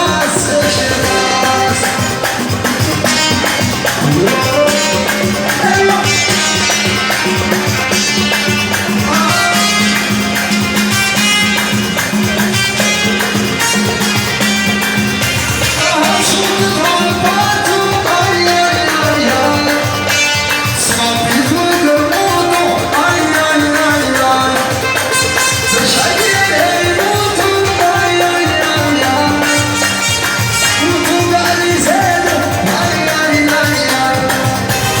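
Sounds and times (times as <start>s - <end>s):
man singing: 0.0s - 11.2s, 15.6s - 35.0s
keyboard music with drone and beat: 0.0s - 35.0s.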